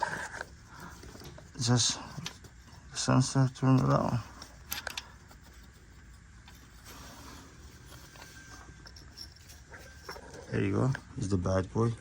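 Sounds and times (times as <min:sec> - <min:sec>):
faint clicks and scraping: 0:00.0 - 0:11.1.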